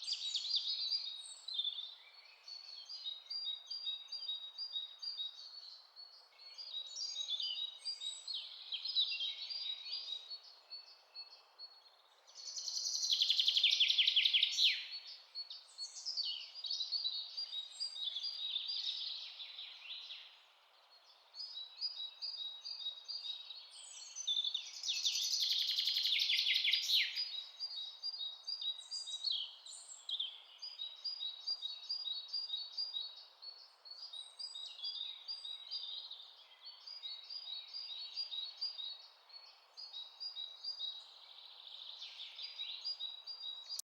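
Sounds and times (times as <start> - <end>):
bird song phrases: 0.0 - 43.9.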